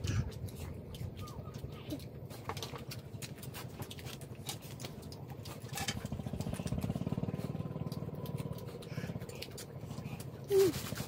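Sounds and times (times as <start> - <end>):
crunchy chewing: 0.0 - 11.0
low pulsing rumble: 0.0 - 11.0.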